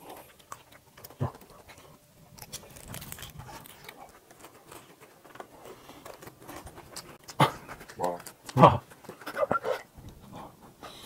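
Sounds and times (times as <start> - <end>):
people chewing and smacking: 0.0 - 11.0.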